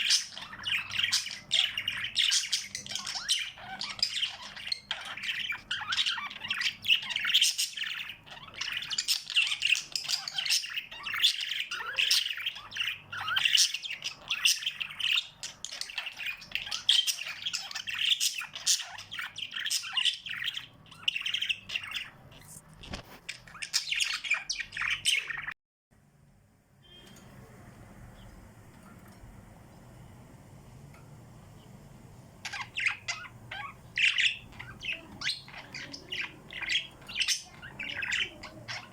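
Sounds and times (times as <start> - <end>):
small birds chirping: 0.0 - 25.6, 31.5 - 38.9.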